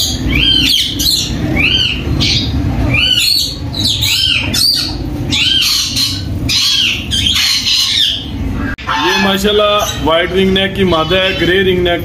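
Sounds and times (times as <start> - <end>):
low background hum: 0.0 - 12.0
parakeets screeching: 0.0 - 12.0.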